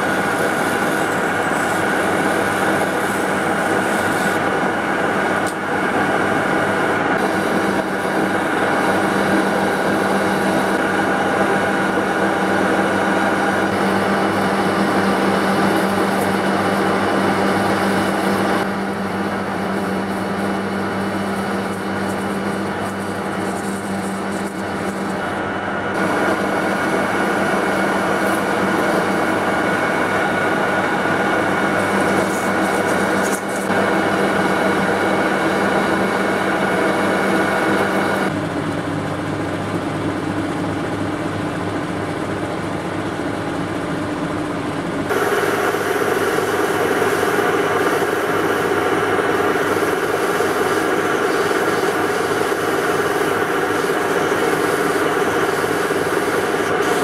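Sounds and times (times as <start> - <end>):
metal lathe cutting steel: 0.0 - 38.4, 45.1 - 57.0.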